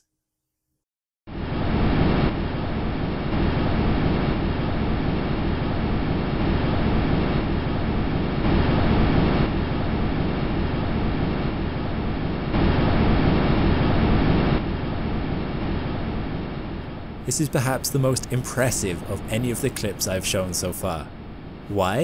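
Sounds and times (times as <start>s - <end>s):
steady rushing noise: 1.3s - 22.0s.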